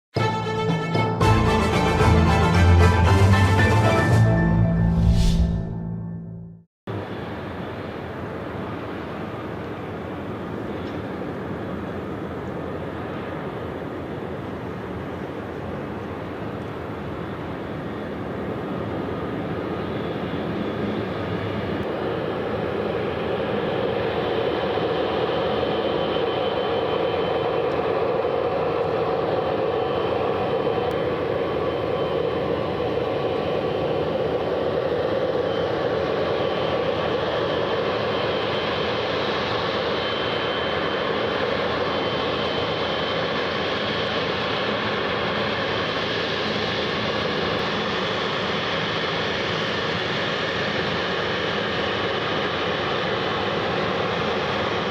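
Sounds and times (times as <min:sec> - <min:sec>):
jet engines running: 0:01.8 - 0:54.9.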